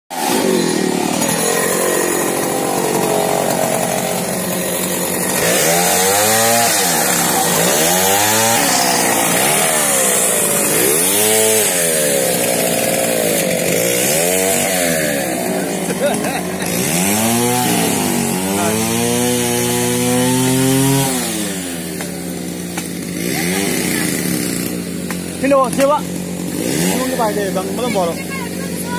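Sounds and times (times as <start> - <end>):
chainsaw cutting wood: 0.1 - 28.9.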